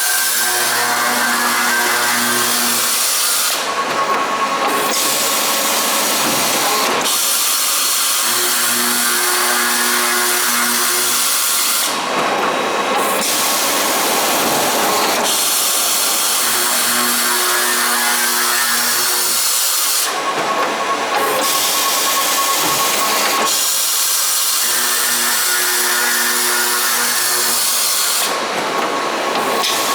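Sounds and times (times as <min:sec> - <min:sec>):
pipe-cutting machine noise: 0:00.0 - 0:29.9.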